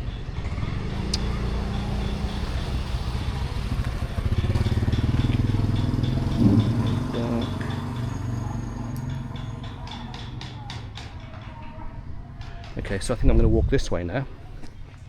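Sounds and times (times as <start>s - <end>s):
motorbike engine passing by: 0.0s - 12.7s.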